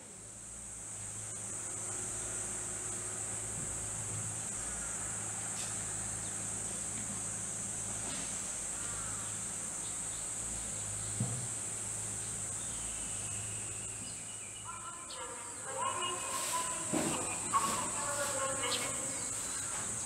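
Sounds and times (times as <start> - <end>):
insects singing: 0.9 - 20.0.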